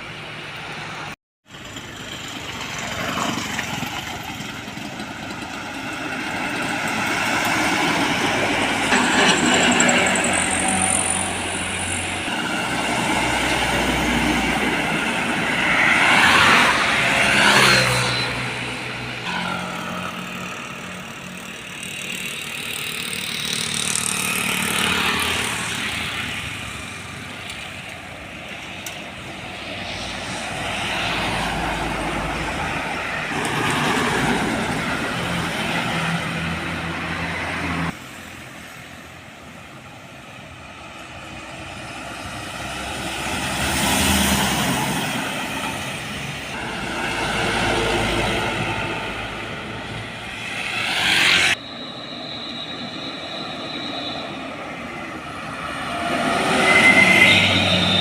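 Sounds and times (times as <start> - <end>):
diesel trucks driving past: 0.0 - 58.0.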